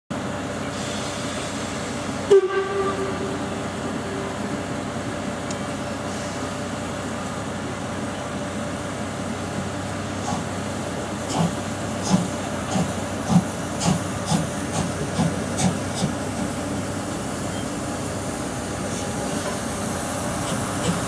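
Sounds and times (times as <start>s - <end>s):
steam locomotive hissing: 0.6s - 21.0s.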